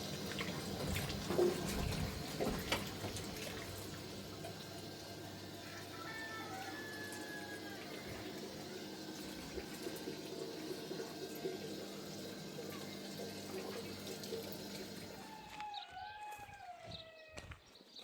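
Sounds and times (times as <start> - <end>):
water running: 0.0 - 15.5.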